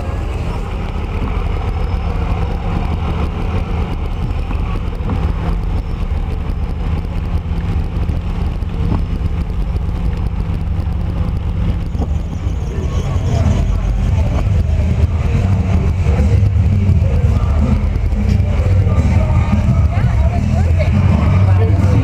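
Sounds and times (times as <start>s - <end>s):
car engine rumble: 0.0s - 22.0s
tyres on wet pavement: 0.0s - 22.0s.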